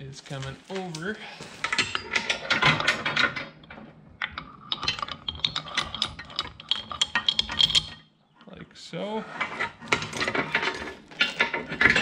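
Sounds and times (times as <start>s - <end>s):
anchor chain clinking and rattling: 0.6s - 8.1s, 9.4s - 12.0s.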